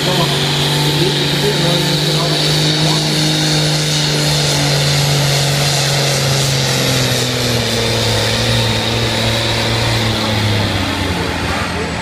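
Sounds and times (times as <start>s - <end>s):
diesel tractor engine at full power: 0.0s - 12.0s.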